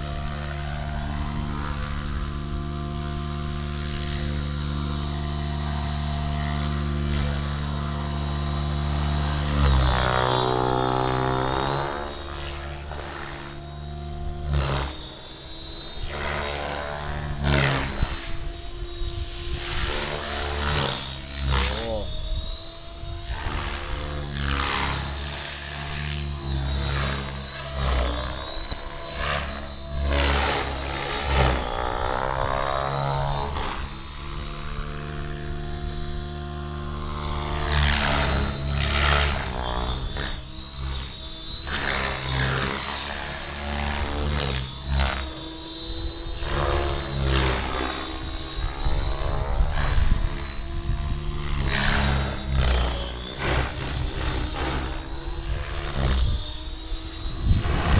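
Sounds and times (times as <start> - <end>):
helicopter rotor beating: 0.0 - 57.9.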